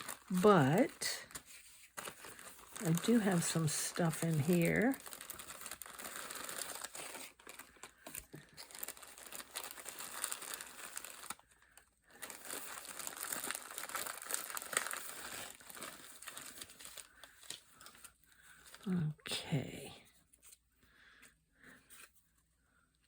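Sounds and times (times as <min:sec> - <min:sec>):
packaging rustling and crinkling: 0:00.0 - 0:18.9.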